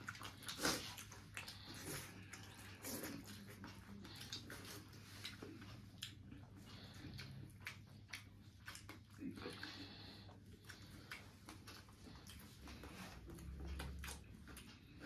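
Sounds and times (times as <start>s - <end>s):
mouth clicks and smacks: 0.0s - 15.0s
person chewing food: 0.0s - 15.0s.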